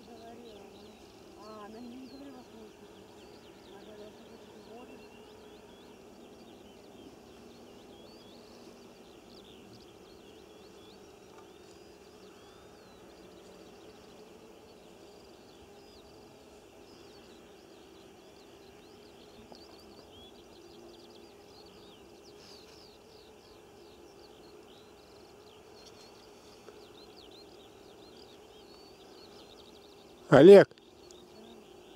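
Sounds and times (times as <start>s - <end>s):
birds chirping and trilling: 0.0s - 31.9s
low background noise: 0.0s - 31.9s.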